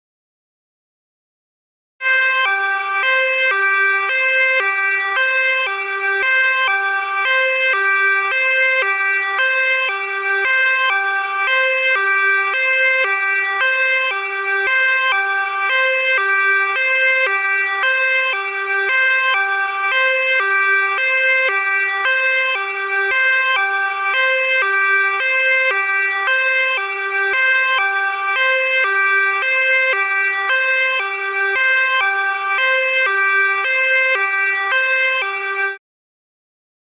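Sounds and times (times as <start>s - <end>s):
ambulance two-tone siren: 2.0s - 35.8s.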